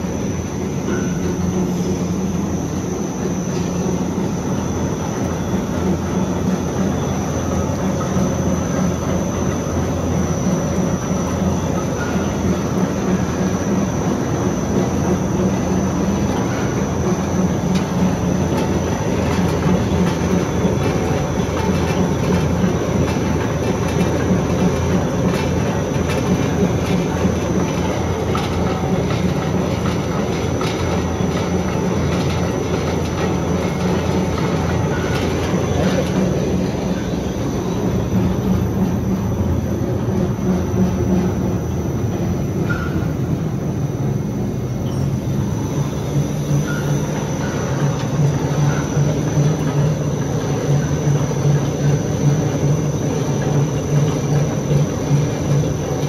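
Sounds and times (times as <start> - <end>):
printing press running: 0.0 - 56.0.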